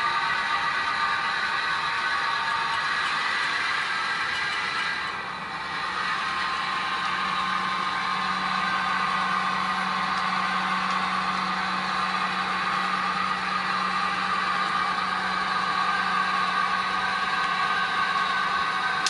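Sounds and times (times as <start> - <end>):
model diesel engine sound from speaker: 0.0 - 19.0.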